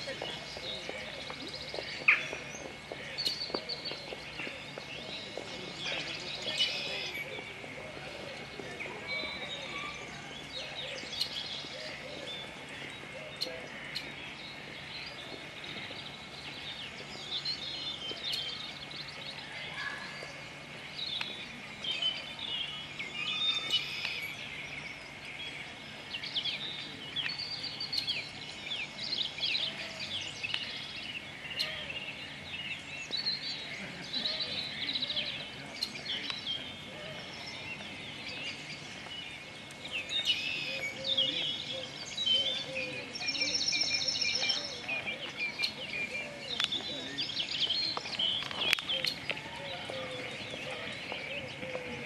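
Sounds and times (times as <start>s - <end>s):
outdoor background noise: 0.0s - 52.0s
small birds chirping: 0.0s - 52.0s.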